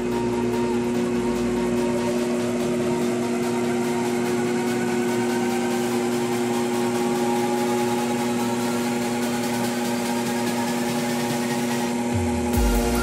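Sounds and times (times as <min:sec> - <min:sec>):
lathe motor humming: 0:00.0 - 0:13.0
rising motor whine: 0:00.0 - 0:13.0.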